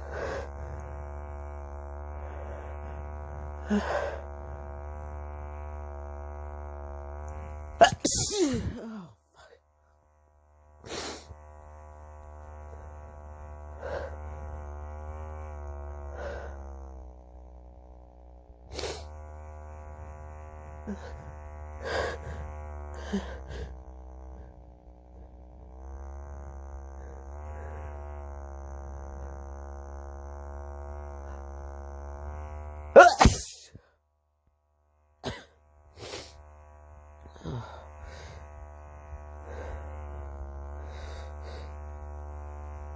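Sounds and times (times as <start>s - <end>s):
handheld vibrator buzzing: 0.0s - 42.9s.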